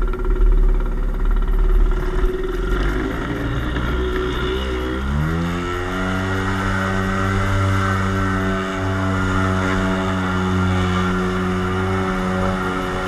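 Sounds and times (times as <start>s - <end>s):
small boat engine running: 0.0s - 13.0s.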